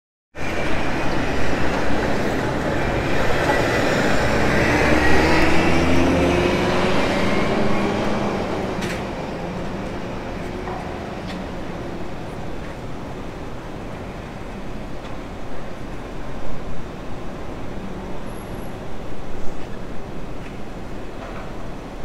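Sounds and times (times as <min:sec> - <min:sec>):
train rumbling with whine: 0:00.4 - 0:22.0.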